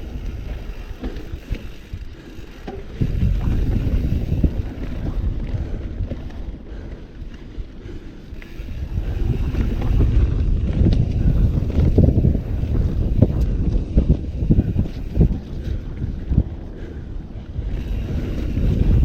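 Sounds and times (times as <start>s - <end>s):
bike knocks and rattles: 0.0s - 6.7s, 8.3s - 16.6s, 17.6s - 19.0s
bike tyres rumbling over dirt: 0.0s - 19.0s
wind buffeting microphone: 0.0s - 19.0s.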